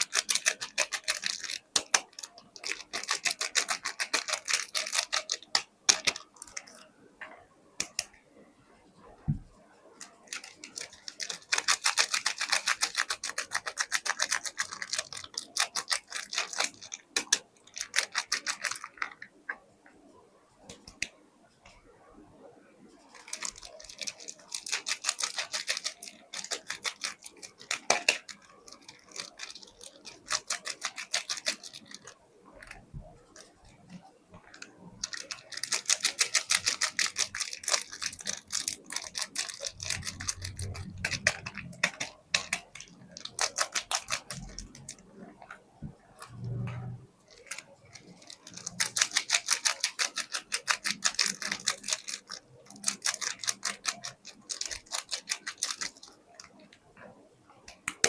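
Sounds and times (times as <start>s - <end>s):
soap packaging crackling: 0.0s - 6.9s, 10.0s - 19.6s, 23.1s - 46.4s, 47.2s - 56.7s.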